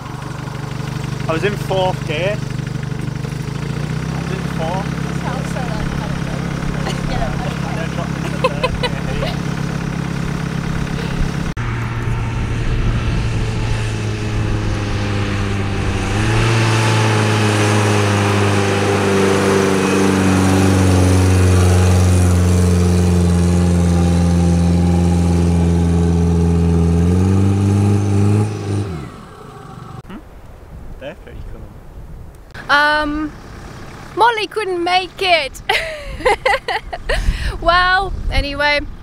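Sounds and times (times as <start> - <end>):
engine under heavy load: 0.0 - 30.2, 32.5 - 39.0.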